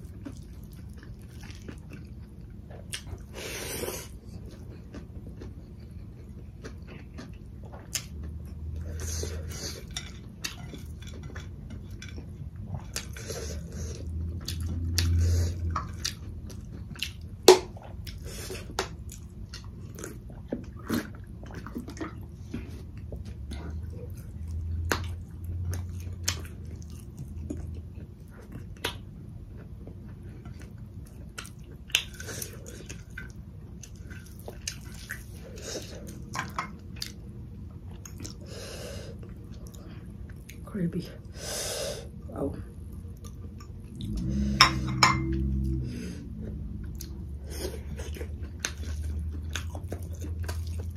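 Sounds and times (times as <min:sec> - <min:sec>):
person chewing food: 0:00.0 - 0:40.6, 0:42.0 - 0:50.9.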